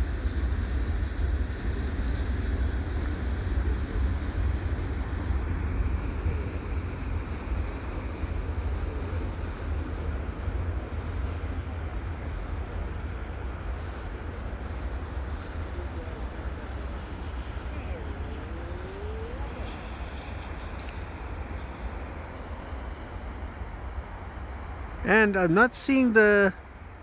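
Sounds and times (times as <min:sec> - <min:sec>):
freight train rolling on rails: 0:00.0 - 0:27.0
low rumble of highway traffic: 0:00.0 - 0:27.0.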